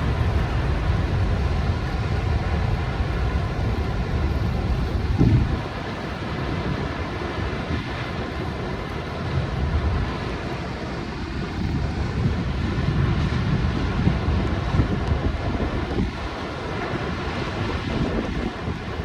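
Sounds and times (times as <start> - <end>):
floodwater rushing: 0.0 - 12.8, 13.6 - 19.0
wind buffeting microphone: 0.0 - 19.0.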